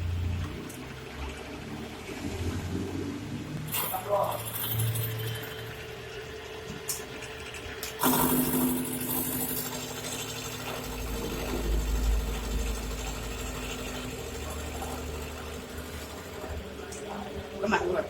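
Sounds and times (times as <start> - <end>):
two-stroke engine running: 0.0 - 18.0.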